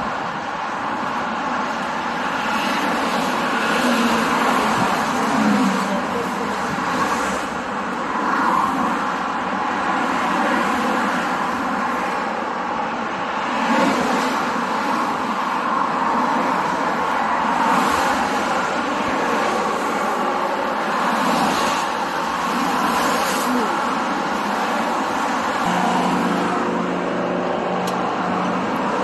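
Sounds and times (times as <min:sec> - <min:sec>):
vehicle traffic noise: 0:00.0 - 0:29.0.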